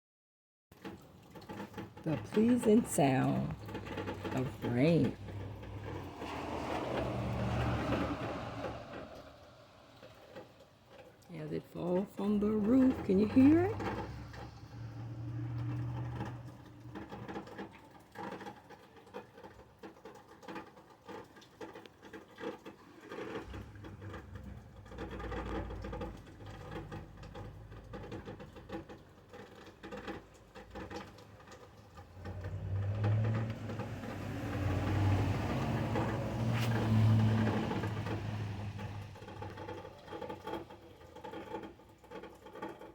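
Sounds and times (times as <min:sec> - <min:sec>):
rain dripping off a roof: 0:00.7 - 0:42.9.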